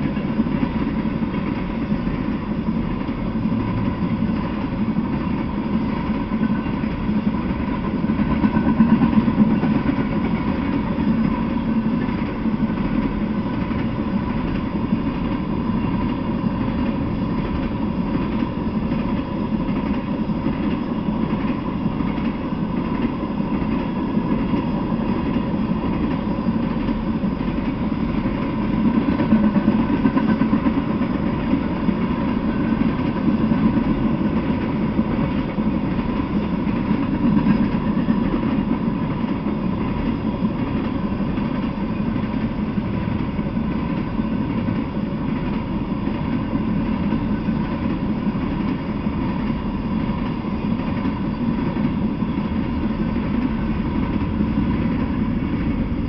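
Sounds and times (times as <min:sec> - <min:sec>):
thin steady whine: 0:00.0 - 0:56.0
train wheels rumbling on rails: 0:00.0 - 0:56.0.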